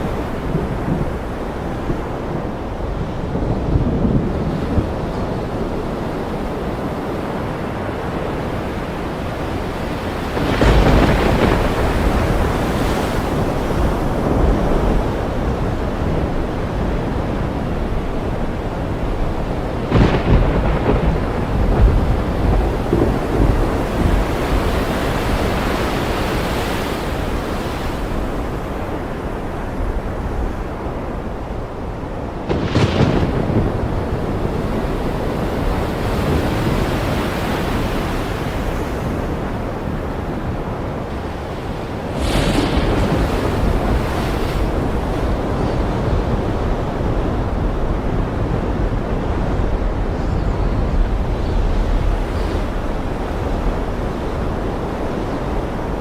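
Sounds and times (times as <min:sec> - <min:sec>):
thunder rolling: 0:00.0 - 0:26.4, 0:28.0 - 0:37.8, 0:38.5 - 0:56.0
ocean waves: 0:00.0 - 0:56.0
rain: 0:00.0 - 0:56.0.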